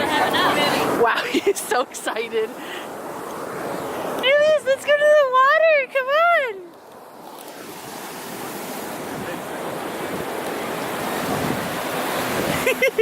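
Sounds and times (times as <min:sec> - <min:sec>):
ocean surf washing in: 0:00.0 - 0:06.1, 0:06.8 - 0:13.0.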